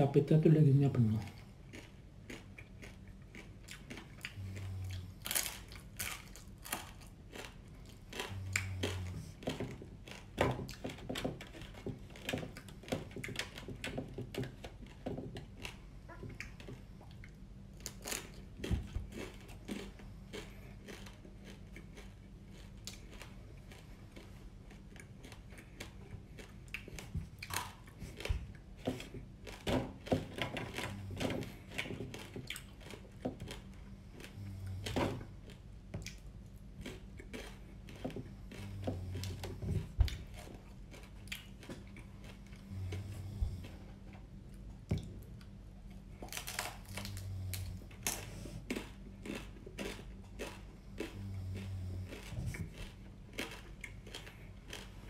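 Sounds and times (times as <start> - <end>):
chewing crunchy fried food: 0.8 - 55.0.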